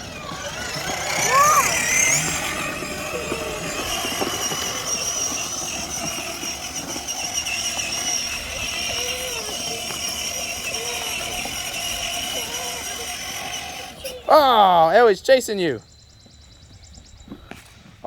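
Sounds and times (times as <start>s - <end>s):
plastic wheels rolling: 0.0s - 14.6s
toy tractor motor whine: 0.0s - 15.1s.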